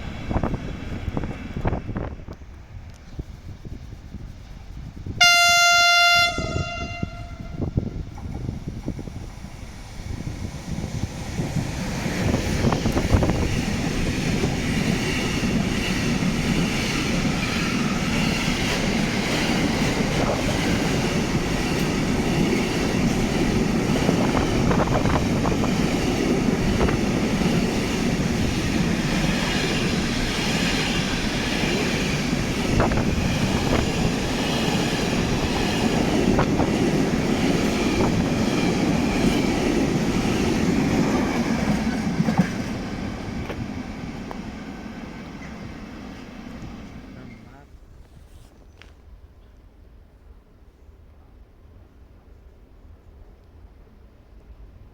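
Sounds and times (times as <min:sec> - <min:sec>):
freight train rumbling: 0:00.0 - 0:54.9.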